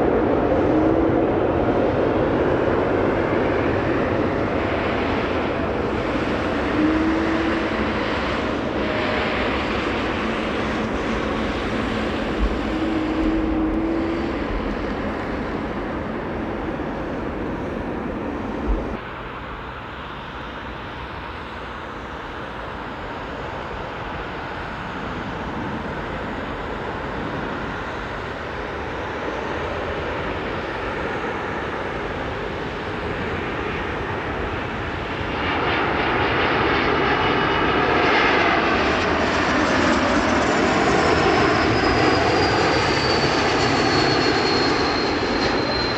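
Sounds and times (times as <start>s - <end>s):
jet engines rushing: 0.0s - 45.9s.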